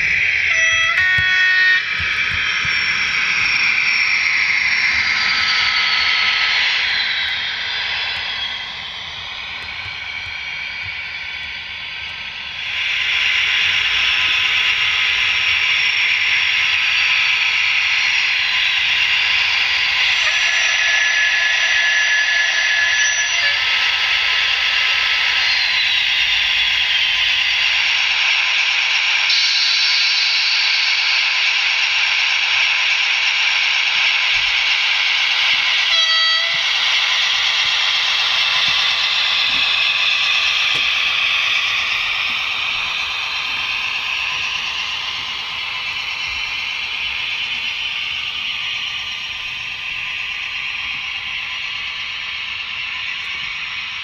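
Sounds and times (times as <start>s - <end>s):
model locomotive diesel engine sound: 0.0s - 54.0s.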